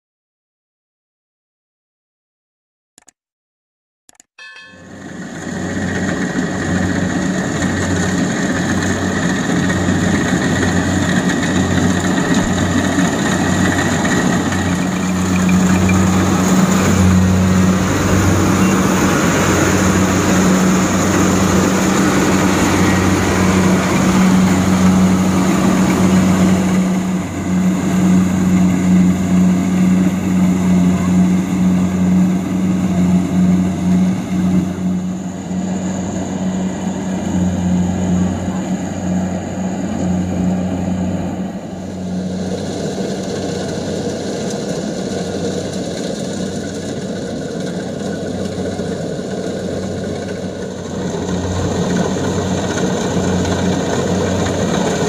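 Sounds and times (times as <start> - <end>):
diesel engine humming: 4.5 - 55.0
threshing drum rushing noise: 4.8 - 55.0.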